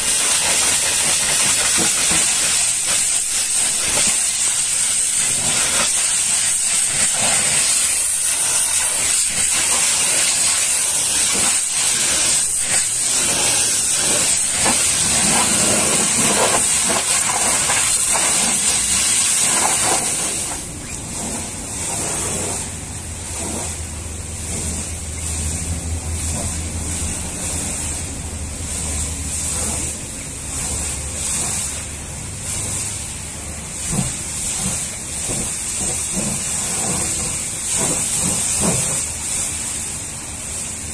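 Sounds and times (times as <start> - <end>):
pressure washer water jet hissing: 0.0 - 40.9.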